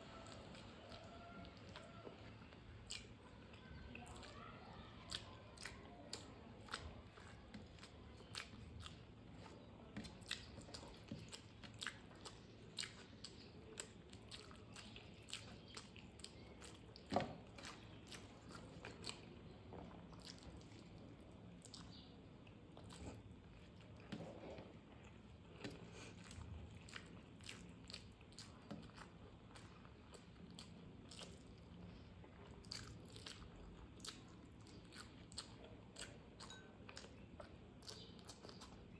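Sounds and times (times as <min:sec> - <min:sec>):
person chewing crunchy food: 0:00.0 - 0:04.4, 0:05.0 - 0:38.9.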